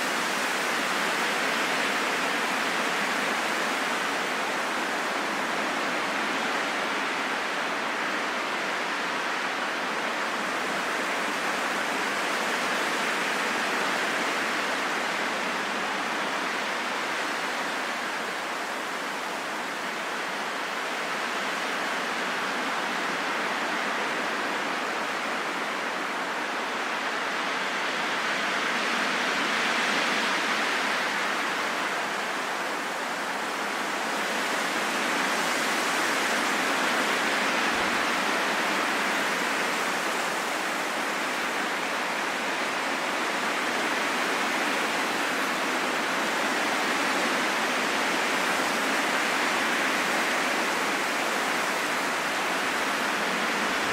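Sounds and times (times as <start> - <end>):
rain falling in a forest: 0.0 - 53.9.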